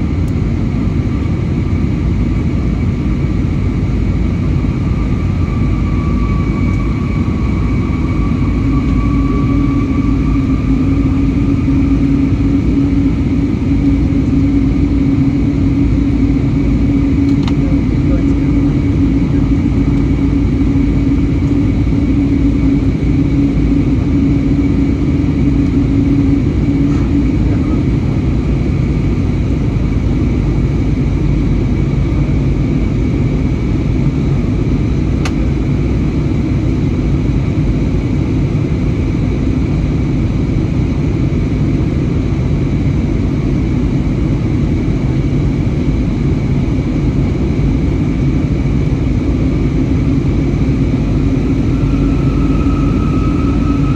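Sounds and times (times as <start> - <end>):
jet engines rumbling in cabin: 0.0 - 53.9
low hum: 0.0 - 53.9.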